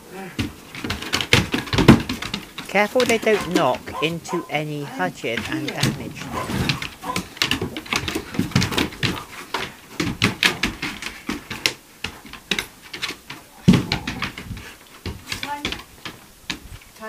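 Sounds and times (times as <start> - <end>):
dog claws on wooden floor: 0.4 - 16.9.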